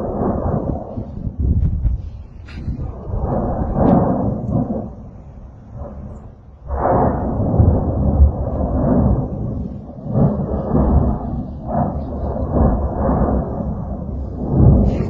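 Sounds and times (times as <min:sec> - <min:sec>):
volcano boom and rumble: 0:00.0 - 0:15.0.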